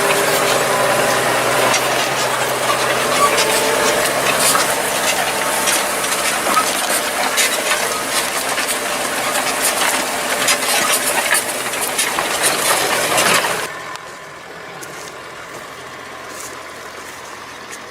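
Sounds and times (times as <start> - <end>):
faint engine hum: 0.0 - 17.9
machinery rattling and clicking: 0.0 - 17.9.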